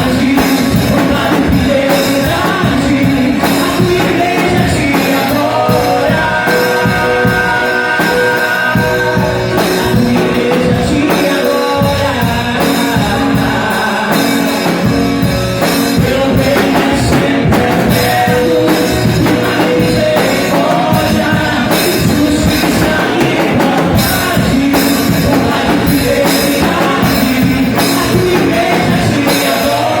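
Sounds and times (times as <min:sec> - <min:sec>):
band playing worship song: 0:00.0 - 0:30.0
drum kit: 0:00.0 - 0:30.0
person singing: 0:00.0 - 0:30.0.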